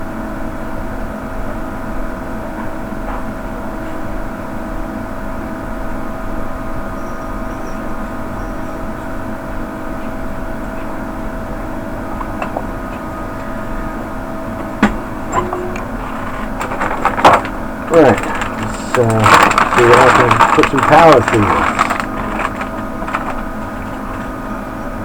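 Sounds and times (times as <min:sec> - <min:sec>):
steady droning hum: 0:03.4 - 0:25.0.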